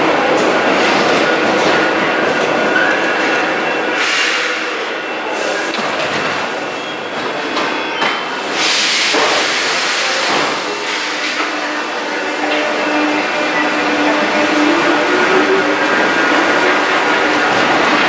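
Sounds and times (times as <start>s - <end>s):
metro train rumbling on rails: 0.0s - 18.0s.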